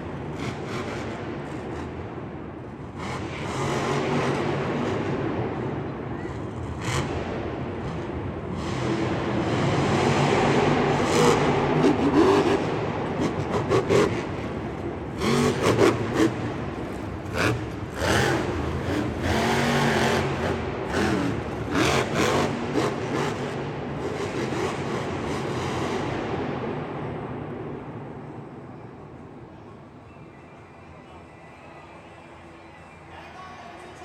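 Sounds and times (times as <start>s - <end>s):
monster truck engine revving: 0.0s - 28.6s.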